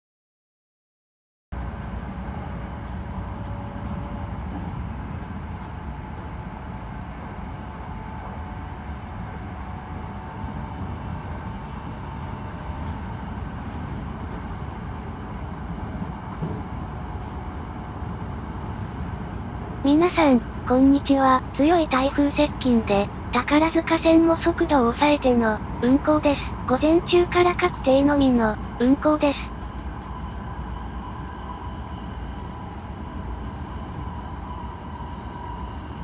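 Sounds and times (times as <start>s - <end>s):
electric train rumbling: 1.6s - 36.0s.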